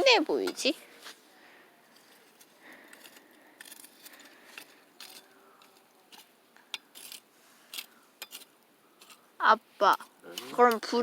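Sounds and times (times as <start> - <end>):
fire crackling: 2.0 - 11.0.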